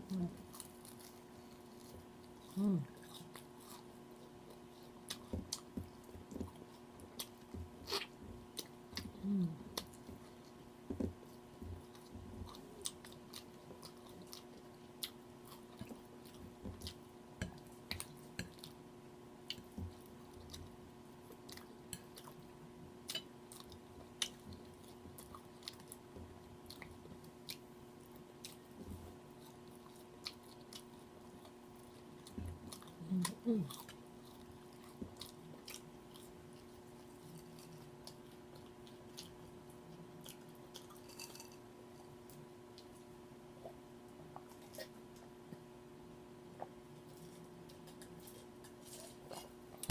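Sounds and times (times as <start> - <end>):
chewing crispy fried chicken: 0.1 - 43.8.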